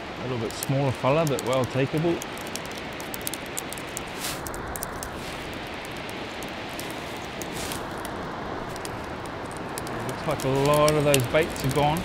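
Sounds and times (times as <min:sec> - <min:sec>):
crackle of high ticks: 0:00.4 - 0:12.0.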